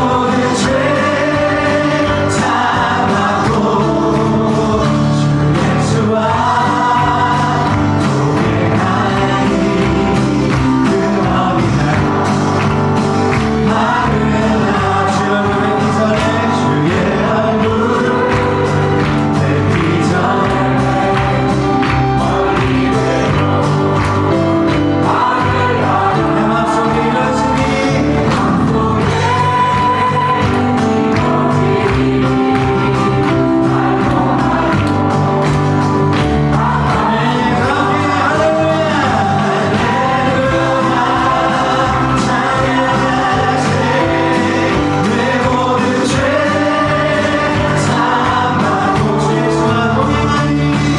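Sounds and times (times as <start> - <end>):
choir singing worship song: 0.0 - 50.9
instrumental accompaniment: 0.0 - 50.9.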